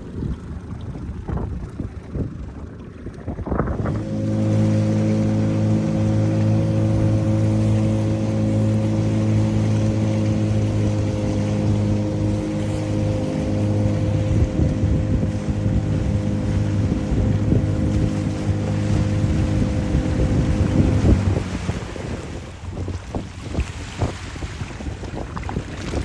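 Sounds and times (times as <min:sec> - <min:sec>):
outboard motor running: 0:00.0 - 0:26.0
water rushing past boat: 0:00.0 - 0:26.0
wind rushing: 0:03.3 - 0:26.0.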